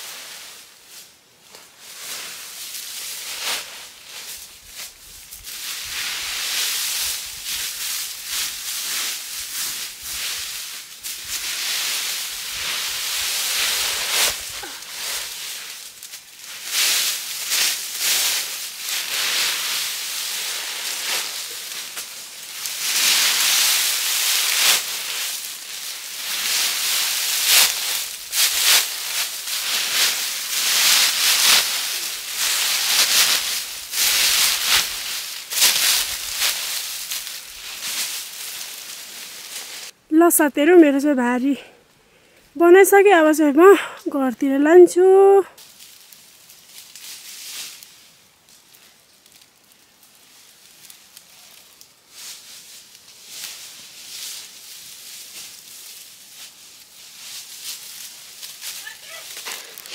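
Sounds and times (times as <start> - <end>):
dry leaves rustling and crunching: 0.0 - 40.0, 45.0 - 59.9.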